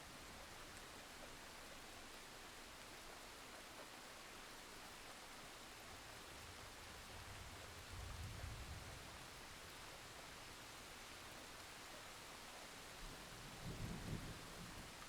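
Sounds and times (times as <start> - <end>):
faint rain hiss: 0.0 - 15.0.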